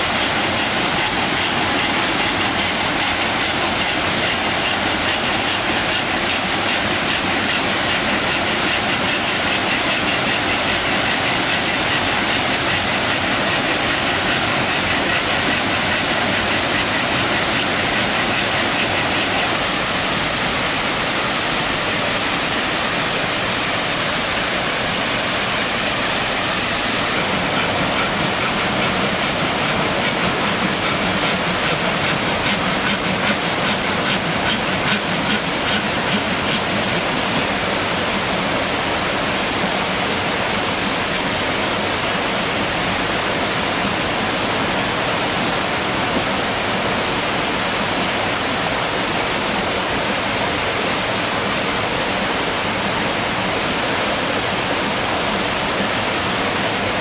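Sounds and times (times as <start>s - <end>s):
water cascading over rocks: 0.0s - 57.0s.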